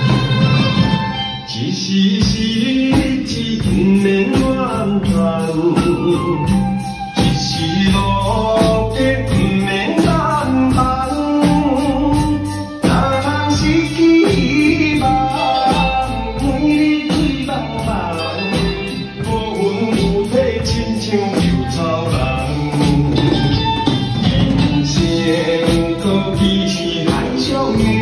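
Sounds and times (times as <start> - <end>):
drums and cymbals beat: 0.0 - 28.0
person singing: 0.0 - 28.0.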